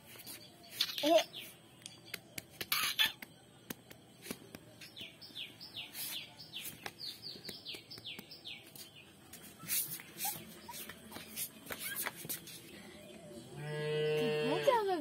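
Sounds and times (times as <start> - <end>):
small bird chirping: 0.0 - 3.4, 4.2 - 13.4.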